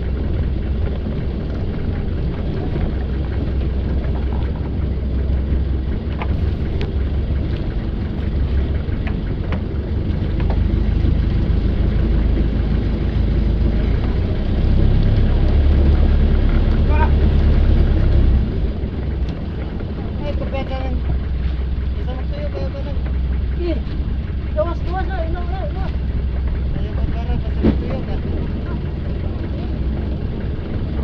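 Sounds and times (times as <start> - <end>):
boat engine running: 0.0 - 31.0
sea wash: 0.0 - 31.0.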